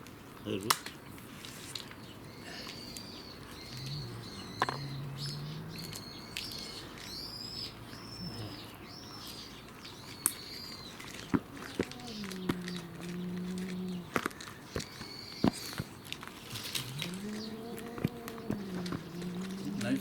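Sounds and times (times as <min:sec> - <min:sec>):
bird chirping: 0:01.9 - 0:20.0.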